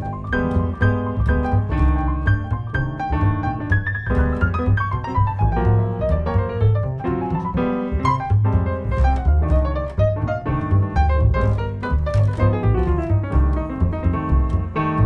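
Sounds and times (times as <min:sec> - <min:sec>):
jazz piano: 0:00.0 - 0:15.0
upright bass: 0:00.0 - 0:15.0.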